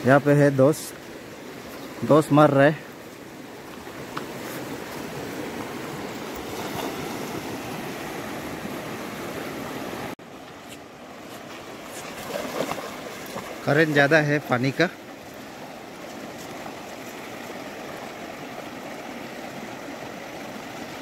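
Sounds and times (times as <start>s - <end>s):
river rushing over stones: 0.0s - 21.0s.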